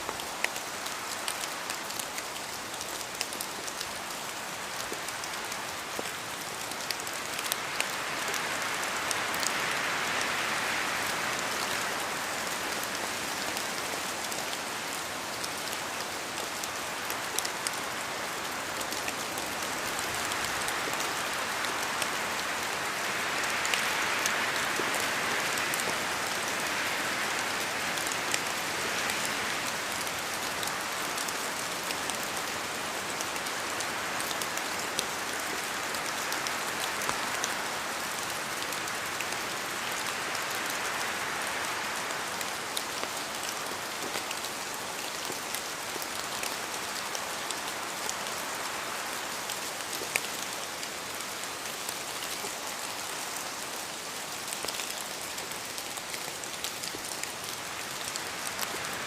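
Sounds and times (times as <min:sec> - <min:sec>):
rain falling through trees: 0:00.0 - 0:59.0.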